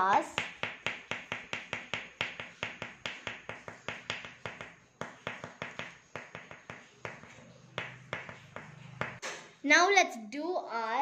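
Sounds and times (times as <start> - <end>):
oil pastel tapping on paper: 0.3 - 9.2.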